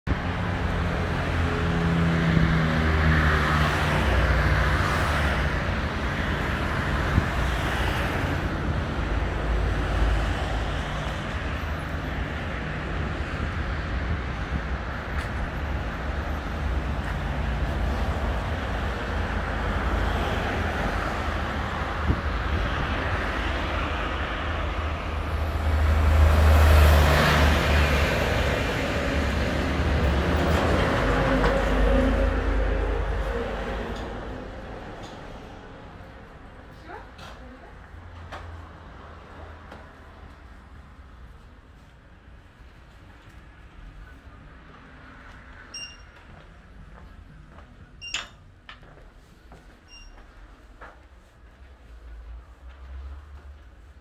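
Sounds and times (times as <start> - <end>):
road traffic passing: 0.1 - 54.0.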